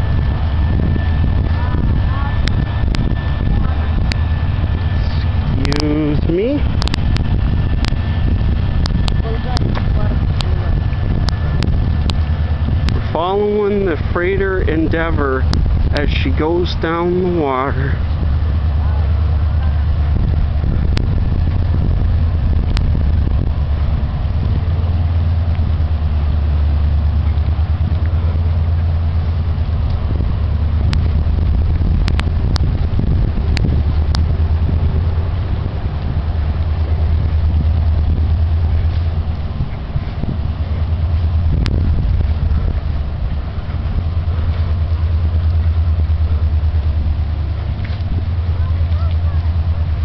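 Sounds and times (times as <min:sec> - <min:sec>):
vehicle rumble: 0:00.0 - 0:50.0.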